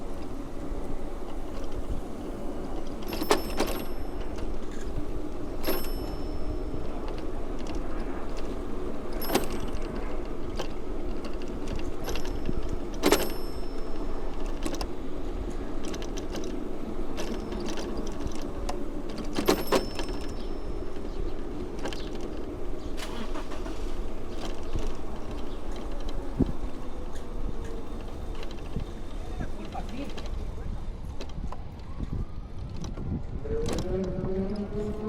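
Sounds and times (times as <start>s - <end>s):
bicycle tyre and road noise: 0.0s - 35.0s
bicycle frame rattling and clicking: 1.2s - 30.4s.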